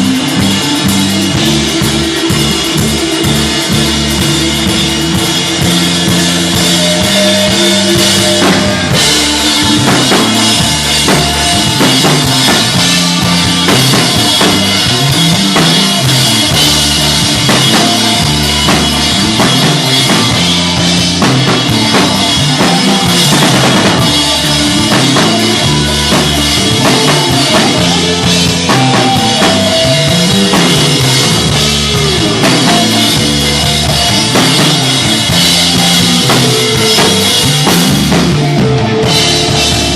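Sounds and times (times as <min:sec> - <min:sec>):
drum kit kick and snare: 0:00.0 - 0:39.9
heavy low guitar riff: 0:00.0 - 0:39.9.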